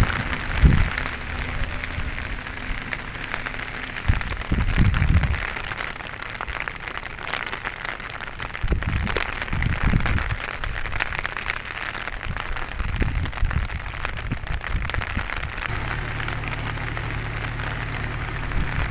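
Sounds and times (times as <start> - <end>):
low rumbles: 0.0 - 18.9
rain patter: 0.0 - 18.9.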